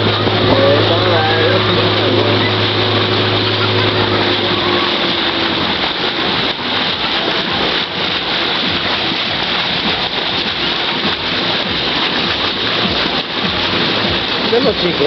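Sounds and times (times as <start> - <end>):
water rushing around a boat: 0.0 - 15.0.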